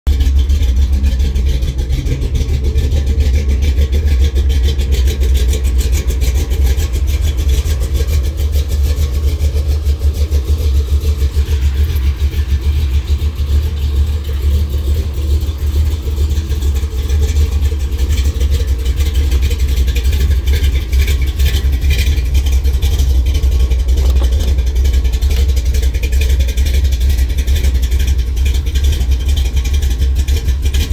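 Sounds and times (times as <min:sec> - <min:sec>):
truck engine idling: 0:00.1 - 0:30.9.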